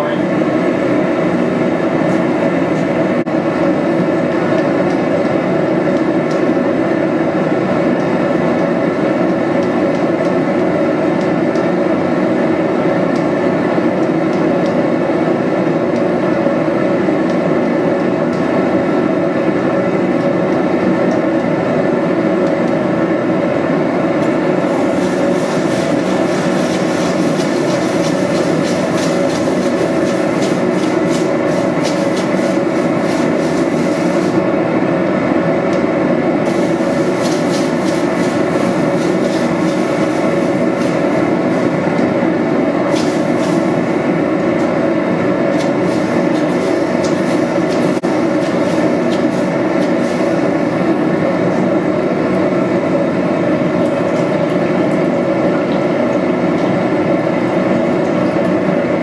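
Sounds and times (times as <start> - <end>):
forge roaring steadily: 0.0 - 59.0.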